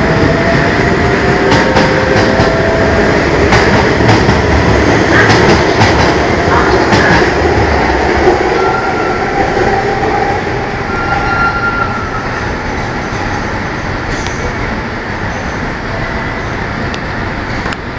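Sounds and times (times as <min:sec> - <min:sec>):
train wheels rumbling: 0:00.0 - 0:17.9.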